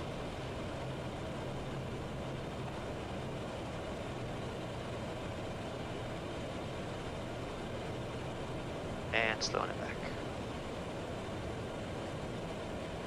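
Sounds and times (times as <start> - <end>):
jet engine and airflow rush: 0.0 - 13.0
low hum: 0.0 - 13.0.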